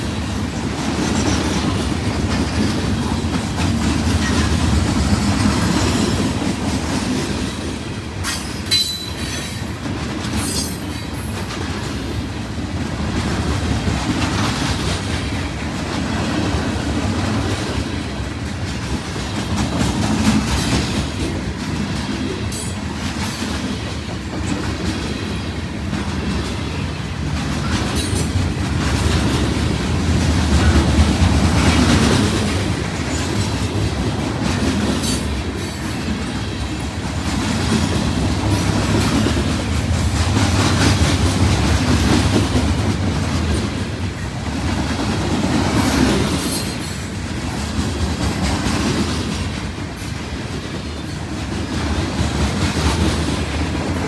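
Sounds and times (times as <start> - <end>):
train cars rumbling past: 0.0 - 54.0
wheels clacking over rail joints: 0.0 - 54.0.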